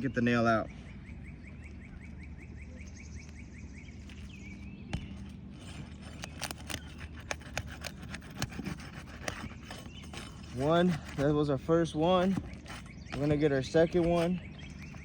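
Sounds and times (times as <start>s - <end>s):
bird trilling: 0.0s - 15.0s
steady low hum: 0.0s - 15.0s.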